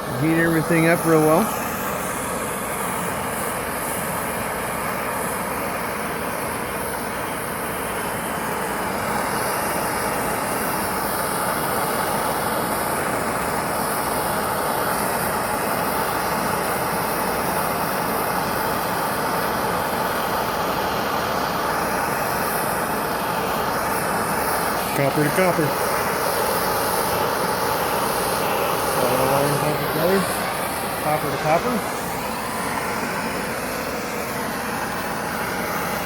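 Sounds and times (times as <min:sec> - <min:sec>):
gas torch hissing: 0:00.0 - 0:36.0.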